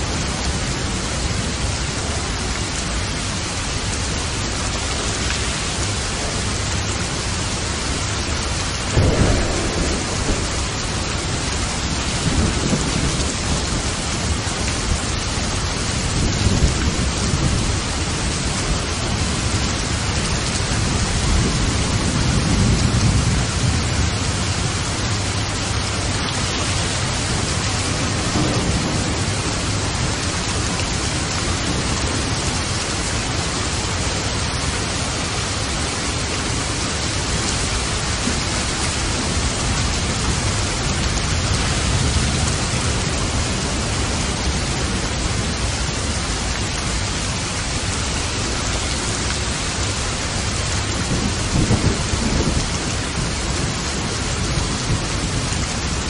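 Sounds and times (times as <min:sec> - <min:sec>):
heavy rain: 0:00.0 - 0:56.0
thunder rumbling: 0:04.9 - 0:56.0.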